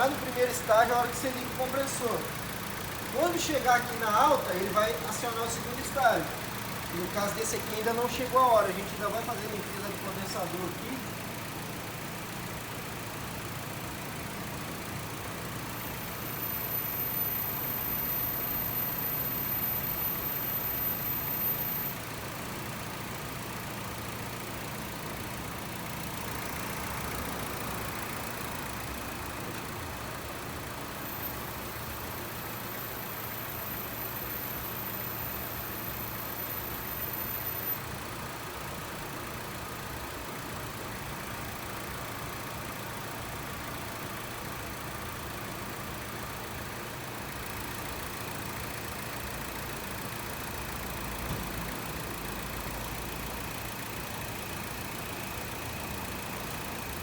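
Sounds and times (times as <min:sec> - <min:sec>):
air conditioning compressor running: 0:00.0 - 0:57.0
car engine idling: 0:00.0 - 0:57.0.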